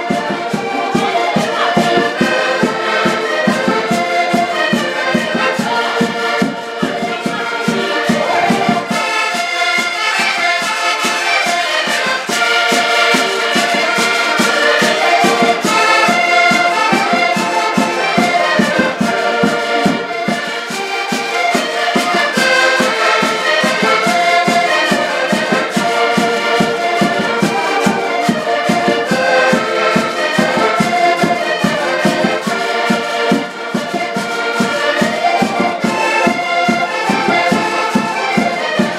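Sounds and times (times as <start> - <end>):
accordions playing dance tune: 0.0 - 38.9.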